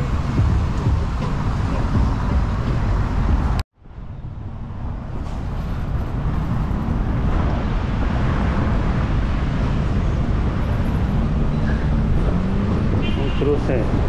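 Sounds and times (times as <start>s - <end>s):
cars passing on road: 0.0s - 14.0s.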